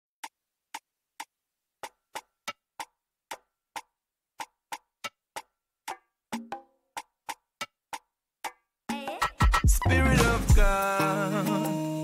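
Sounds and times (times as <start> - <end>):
sharp percussion clicks: 1.2 - 11.8.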